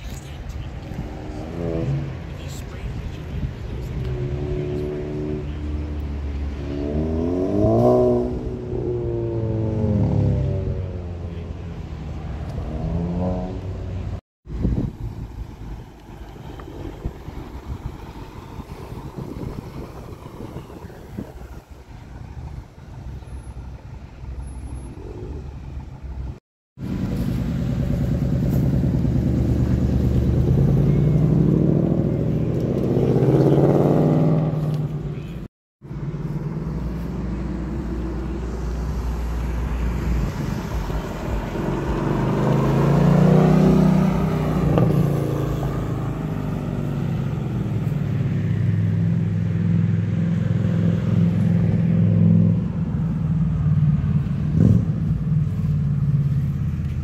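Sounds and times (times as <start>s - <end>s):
car engine revving: 0.6s - 14.2s, 16.0s - 56.5s.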